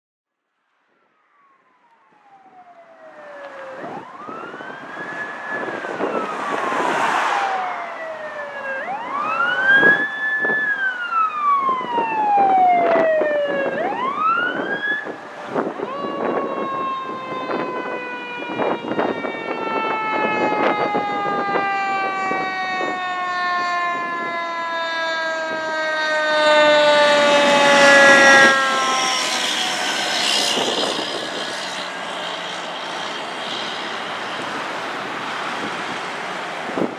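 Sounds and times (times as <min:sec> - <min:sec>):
fire engine passing: 0:00.8 - 0:36.9
fire engine siren: 0:00.8 - 0:36.9.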